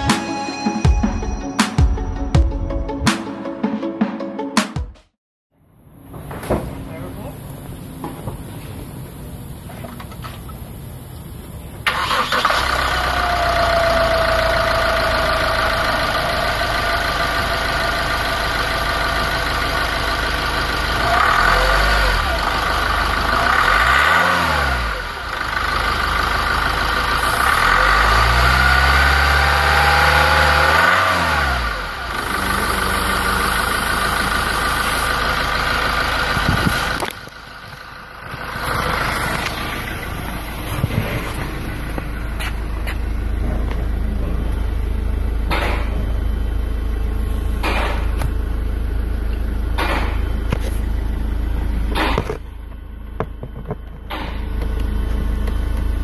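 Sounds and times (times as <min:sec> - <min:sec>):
van engine starting and idling: 0:05.6 - 0:56.0
van engine revving: 0:05.9 - 0:56.0.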